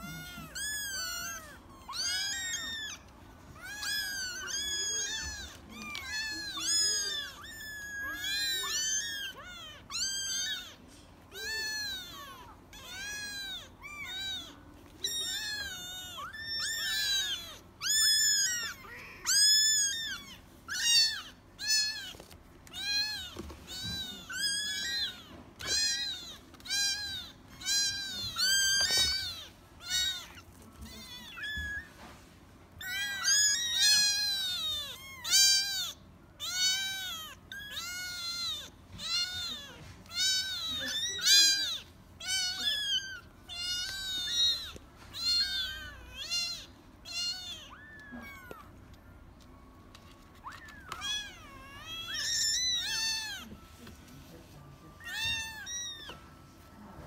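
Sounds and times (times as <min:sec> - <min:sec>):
kittens mewing: 0:00.0 - 0:54.0, 0:54.8 - 0:57.0.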